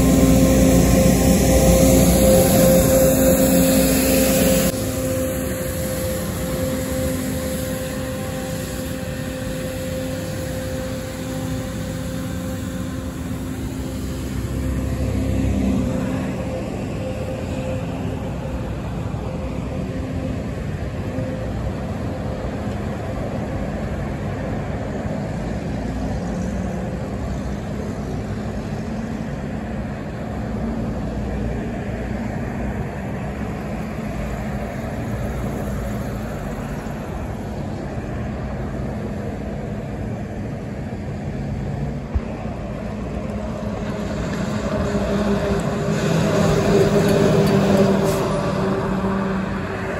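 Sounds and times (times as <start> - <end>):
road traffic driving past: 0.0 - 49.9.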